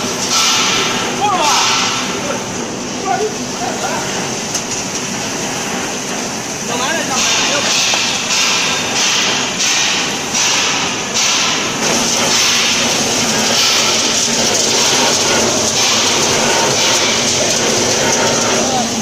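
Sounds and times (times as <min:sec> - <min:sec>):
popcorn machine running: 0:00.0 - 0:19.0.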